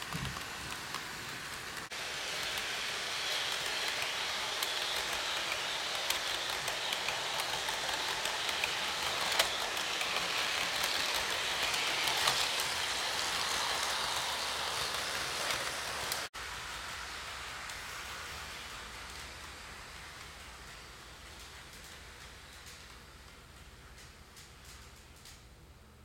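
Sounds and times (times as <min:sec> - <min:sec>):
model train wheels rattling on track: 0:00.0 - 0:25.4.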